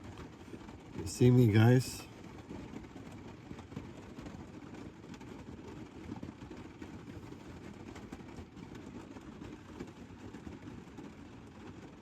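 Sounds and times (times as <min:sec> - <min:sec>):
rain pattering on a roof: 0:00.0 - 0:12.0.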